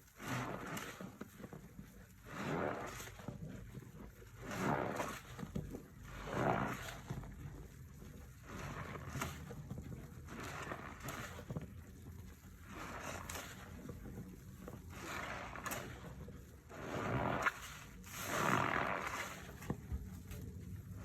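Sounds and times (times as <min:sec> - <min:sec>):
wet scrubbing through suds: 0:00.1 - 0:21.0.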